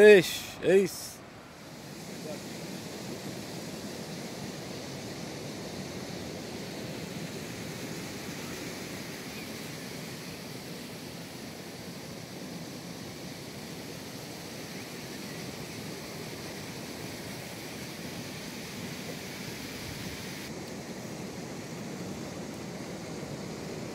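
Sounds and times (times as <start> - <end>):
sea surf: 0.0 - 23.9
wind: 0.0 - 23.9.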